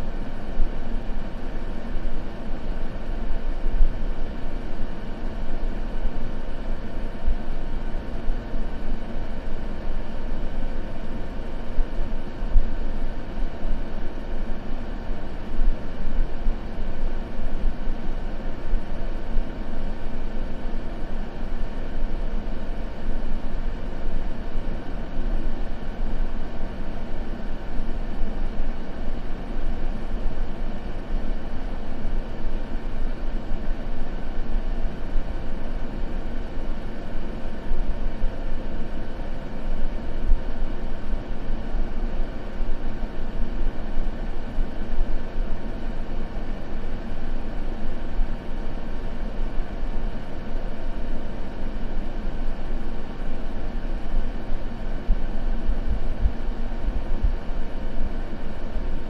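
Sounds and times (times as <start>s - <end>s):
low white noise rumble: 0.0s - 59.0s.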